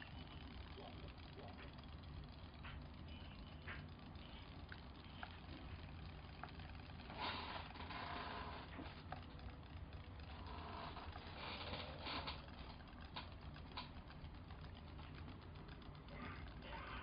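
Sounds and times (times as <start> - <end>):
fast rattling tick: 0.0 - 17.0
small electric motor humming: 0.0 - 17.0.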